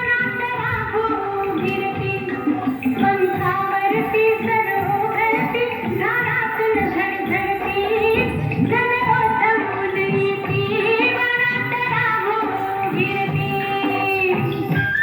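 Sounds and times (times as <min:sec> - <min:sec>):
instrumental backing with beat: 0:00.0 - 0:15.0
woman singing: 0:00.0 - 0:15.0.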